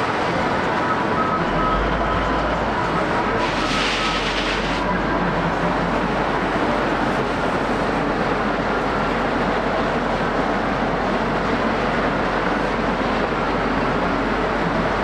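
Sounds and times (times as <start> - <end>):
heavy diesel machinery and hydraulics: 0.0 - 15.0.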